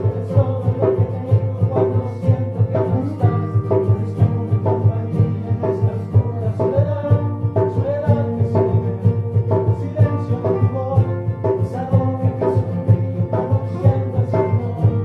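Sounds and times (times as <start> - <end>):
instrumental music with steady beat: 0.0 - 15.0.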